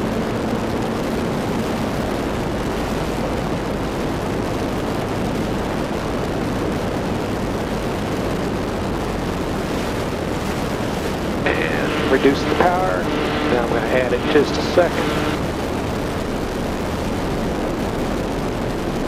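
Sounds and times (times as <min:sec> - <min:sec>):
aircraft engine and propeller drone: 0:00.0 - 0:18.7.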